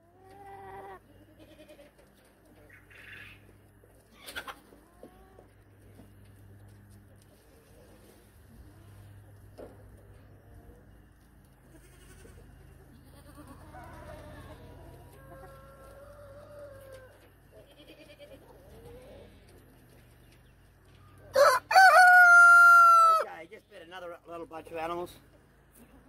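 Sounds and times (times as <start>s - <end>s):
low steady hum: 0.0s - 21.7s
chickens calling: 0.0s - 23.5s.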